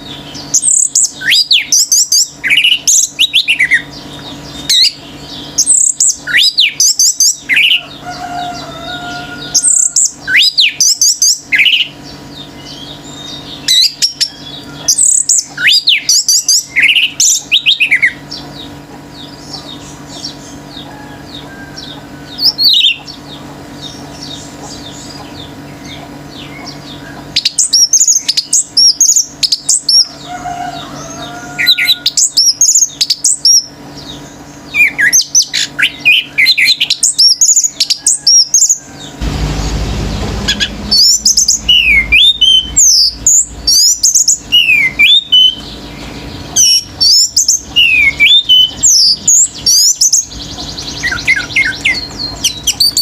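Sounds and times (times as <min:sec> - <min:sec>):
faint bird twittering: 0:00.0 - 0:53.0
steady low hum: 0:00.0 - 0:53.0
thrush singing whistles and trills: 0:00.0 - 0:53.0.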